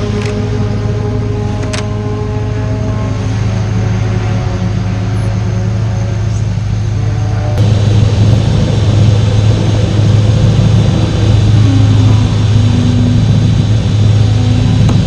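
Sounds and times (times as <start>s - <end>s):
engine running low drone: 0.0s - 15.0s.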